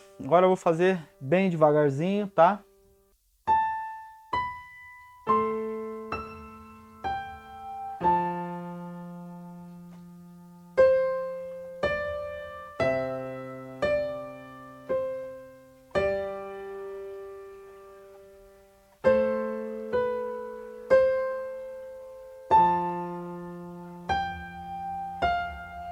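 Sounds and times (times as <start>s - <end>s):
electronic keyboard piano notes: 3.5s - 25.9s.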